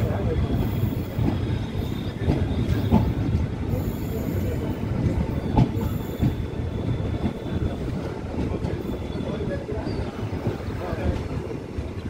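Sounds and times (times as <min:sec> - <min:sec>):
train wagons rumbling on rails: 0:00.0 - 0:12.0.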